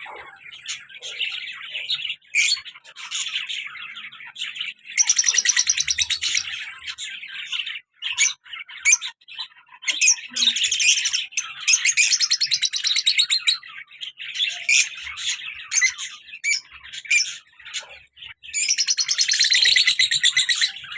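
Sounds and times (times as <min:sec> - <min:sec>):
lovebirds chirping: 0:00.0 - 0:20.9.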